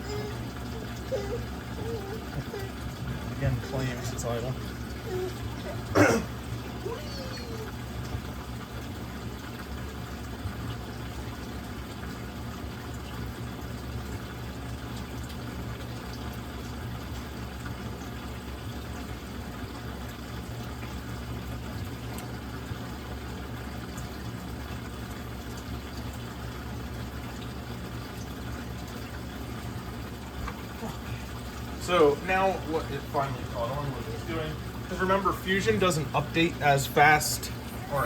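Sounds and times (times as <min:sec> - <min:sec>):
low pump hum: 0:00.0 - 0:38.0.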